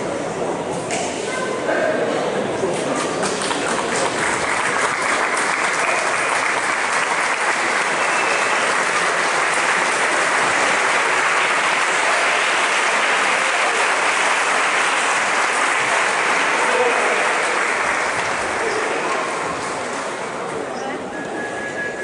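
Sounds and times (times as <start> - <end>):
audience applauding: 3.0 - 20.7.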